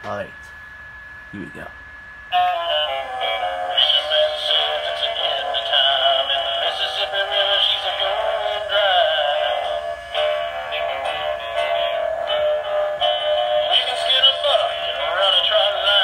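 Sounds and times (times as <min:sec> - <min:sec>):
tinny toy song with singing: 0:02.3 - 0:16.0.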